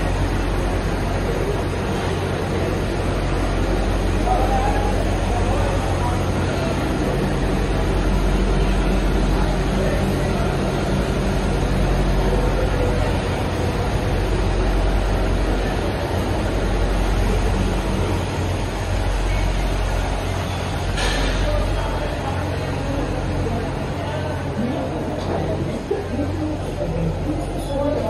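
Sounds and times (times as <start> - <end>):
continuous hum: 0.0 - 28.0
low mechanical rumble: 0.0 - 28.0.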